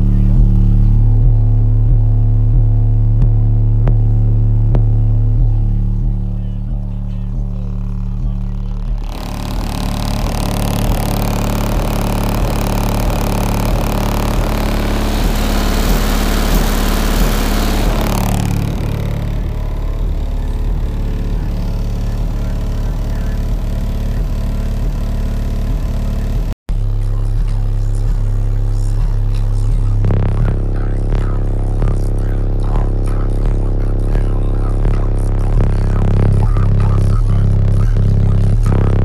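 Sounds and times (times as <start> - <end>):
distorted bass music: 0.0 - 39.0
harsh buzzing noise: 0.0 - 39.0.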